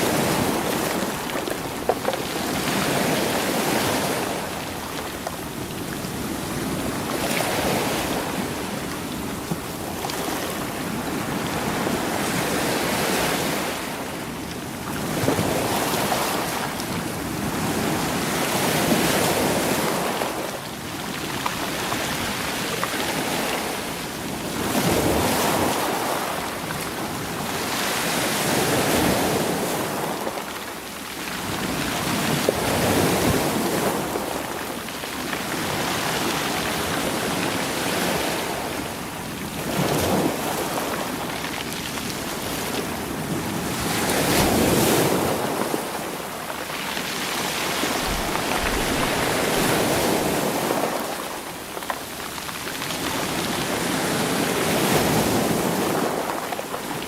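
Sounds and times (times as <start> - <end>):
waves tumbling shore pebbles: 0.0 - 57.0.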